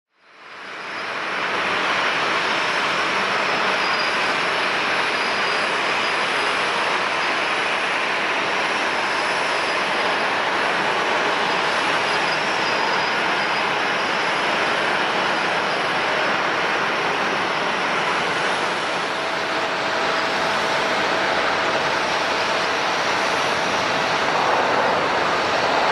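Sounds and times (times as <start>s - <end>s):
jet airliner engines running: 0.2s - 25.9s.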